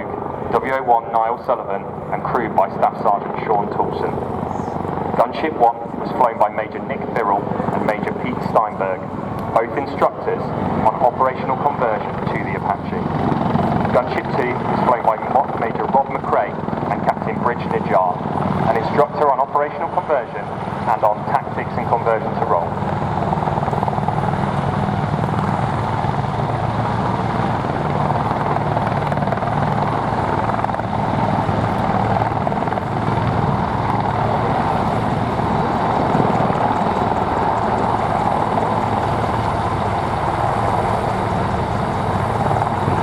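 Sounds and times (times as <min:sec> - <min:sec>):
helicopter rotor chop: 0:00.0 - 0:43.0.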